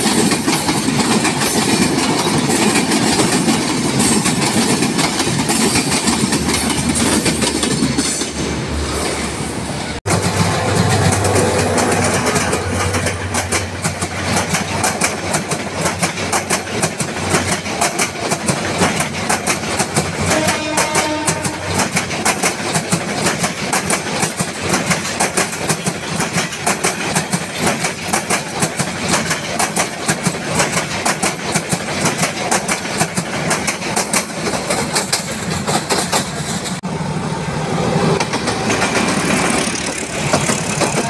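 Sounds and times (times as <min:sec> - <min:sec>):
train wheels clattering over joints: 0:00.0 - 0:08.5, 0:10.1 - 0:36.8, 0:38.1 - 0:41.0
diesel locomotive running: 0:00.0 - 0:41.0.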